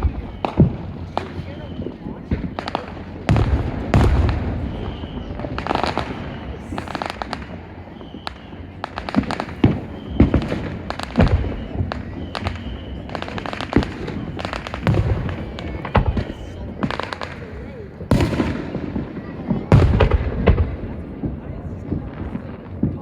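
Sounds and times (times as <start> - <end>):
deep fireworks booms: 0.0 - 23.0
fireworks bangs and crackling: 0.0 - 23.0.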